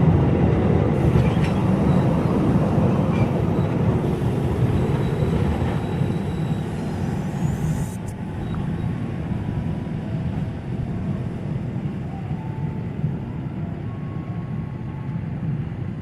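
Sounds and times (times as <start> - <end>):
passing train rumble: 0.0 - 16.0.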